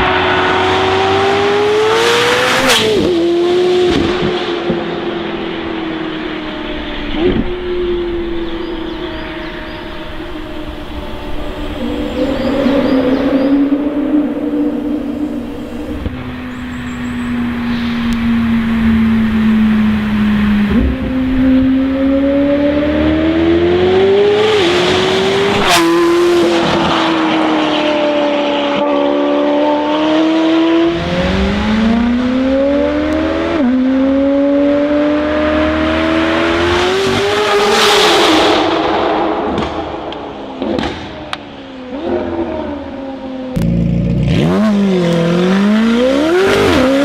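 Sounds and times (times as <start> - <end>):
sports car engine accelerating: 0.0 - 47.0.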